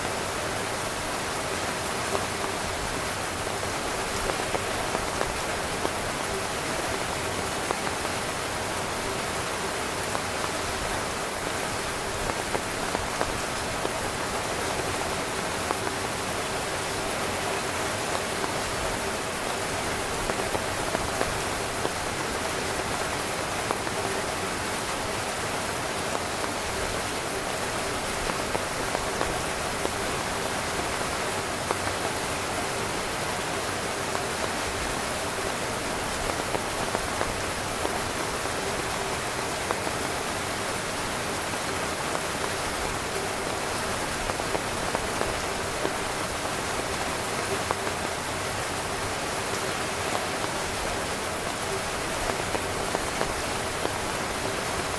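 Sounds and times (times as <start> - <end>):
heavy rain on a tent: 0.0 - 54.9.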